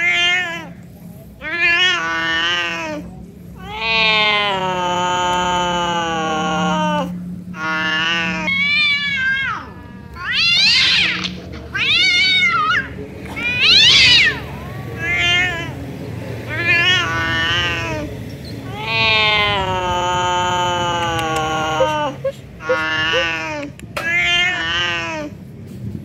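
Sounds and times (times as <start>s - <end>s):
cat meowing: 0.0s - 0.7s, 3.6s - 15.8s, 16.5s - 18.1s, 18.7s - 25.3s.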